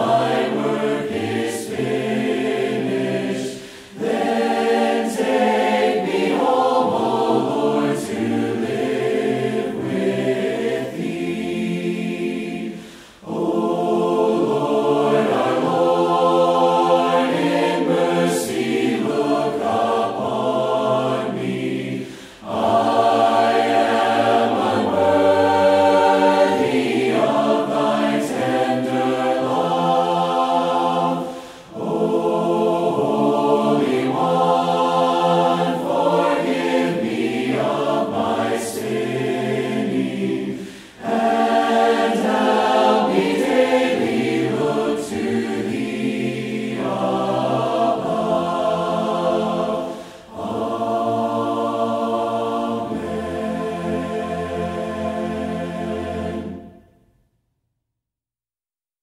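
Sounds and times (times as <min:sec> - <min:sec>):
choir singing sacred music: 0:00.0 - 0:57.4.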